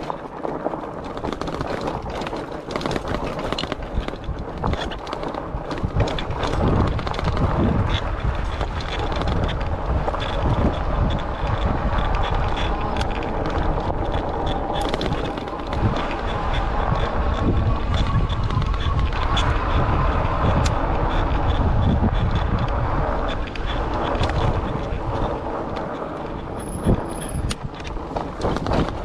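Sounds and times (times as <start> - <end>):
bike clicks and rattles: 0.0 - 29.0
wind buffeting microphone: 0.0 - 29.0.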